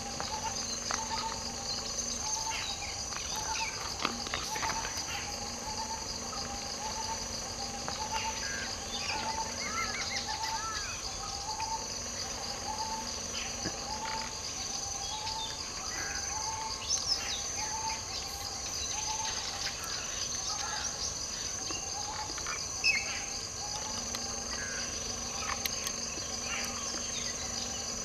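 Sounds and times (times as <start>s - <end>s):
bird chirps: 0.0s - 28.0s
high drone of insects: 0.0s - 28.0s.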